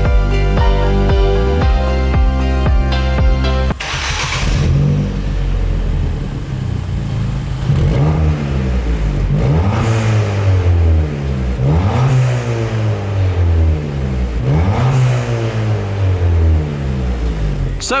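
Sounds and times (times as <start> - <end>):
car engine revving: 3.6 - 18.0.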